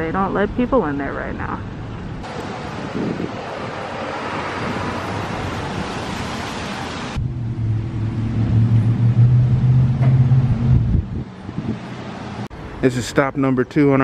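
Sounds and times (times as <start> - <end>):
rushing outdoor noise: 0.0 - 14.0.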